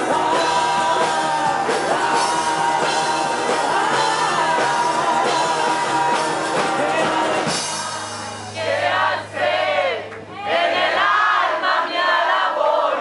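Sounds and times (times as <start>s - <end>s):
crowd shouting and cheering: 0.0s - 13.0s
drums: 0.0s - 13.0s.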